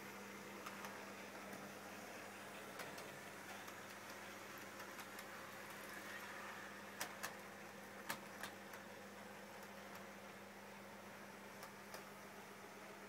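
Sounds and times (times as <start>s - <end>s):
faint steady hum and hiss: 0.0s - 13.0s.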